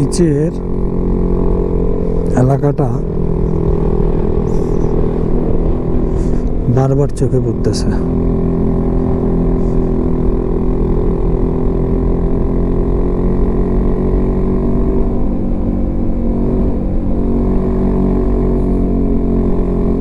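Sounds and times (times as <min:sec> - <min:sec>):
low rumble: 0:00.0 - 0:19.3
motorcycle engine running: 0:00.0 - 0:20.0.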